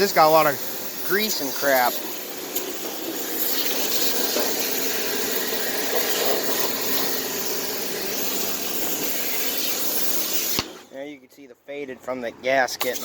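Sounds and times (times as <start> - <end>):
pump motor humming: 0.0 - 10.8
pressure washer water jet hissing: 0.0 - 10.9, 12.8 - 13.0.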